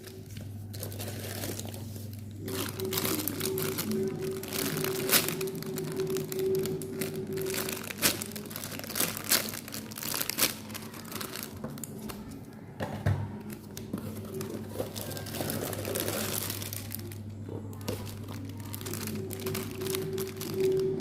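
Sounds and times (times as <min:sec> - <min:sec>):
packaging crinkling: 0:00.0 - 0:12.6, 0:13.4 - 0:21.0.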